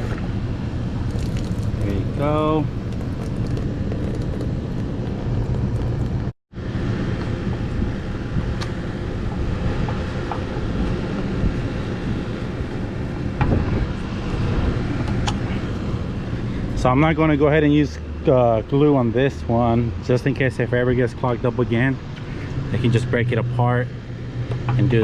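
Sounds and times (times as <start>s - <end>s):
low rumbling background noise: 0.0s - 25.0s.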